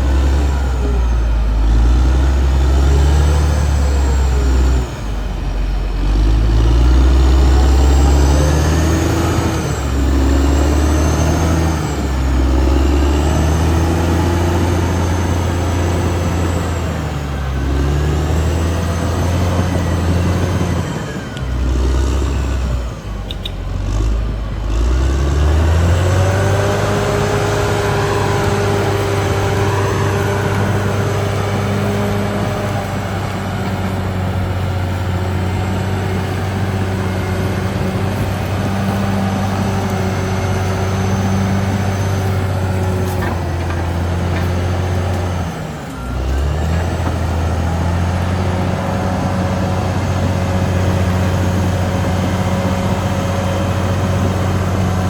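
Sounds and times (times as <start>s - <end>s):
bulldozer diesel engine revving: 0.0s - 55.0s.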